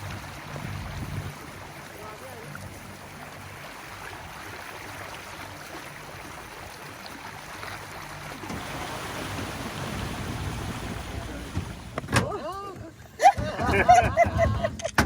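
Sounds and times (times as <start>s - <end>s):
water rushing past hull: 0.0s - 14.8s
boat engine running: 0.0s - 14.9s.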